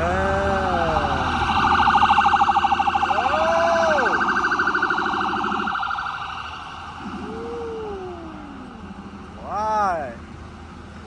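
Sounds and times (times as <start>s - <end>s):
emergency siren warbling: 0.0s - 10.4s.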